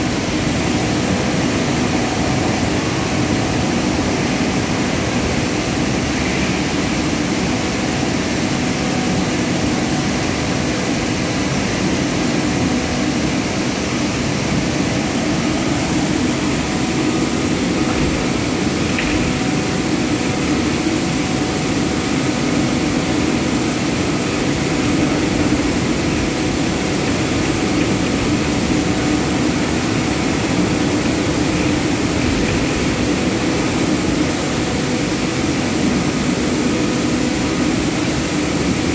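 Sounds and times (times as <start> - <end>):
industrial machinery din: 0.0 - 38.9.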